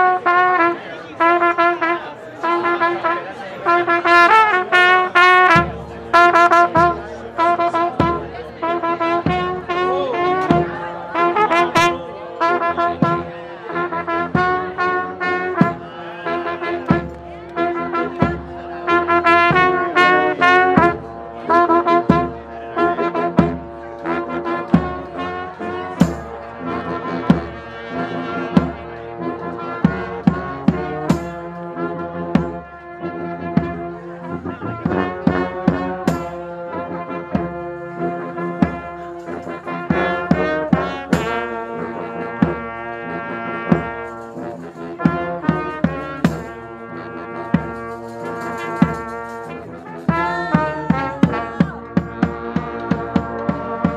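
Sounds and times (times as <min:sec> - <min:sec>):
street brass band playing: 0:00.0 - 0:53.9.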